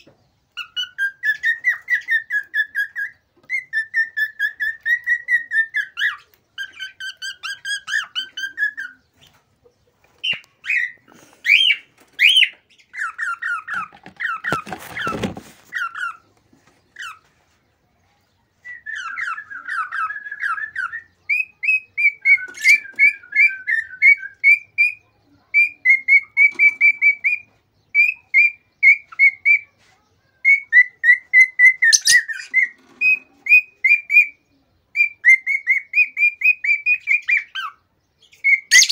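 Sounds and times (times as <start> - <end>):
cockatiel whistling song: 0.5 - 9.1, 10.2 - 14.6, 18.6 - 29.7, 30.4 - 38.9.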